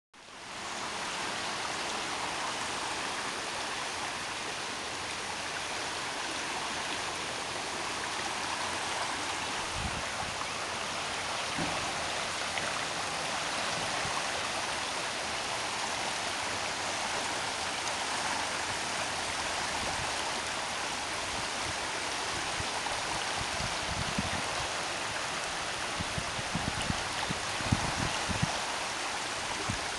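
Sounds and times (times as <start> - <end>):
stream water rushing: 0.2 - 29.9.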